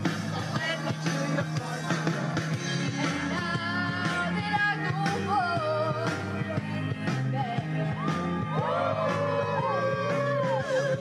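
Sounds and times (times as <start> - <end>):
amplified drums and bass: 0.0 - 11.0
young singers singing pop-rock: 0.0 - 11.0.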